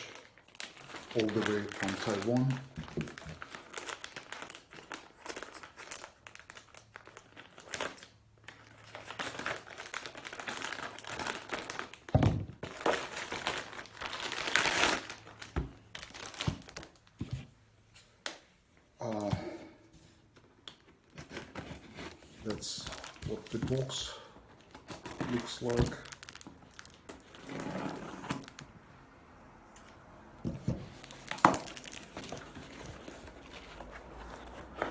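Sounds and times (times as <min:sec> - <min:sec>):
packaging tearing: 0:00.0 - 0:17.1, 0:21.2 - 0:24.0, 0:24.6 - 0:28.7, 0:30.9 - 0:34.9
package wrapping crinkling: 0:00.0 - 0:17.3, 0:20.4 - 0:28.8, 0:30.7 - 0:34.9.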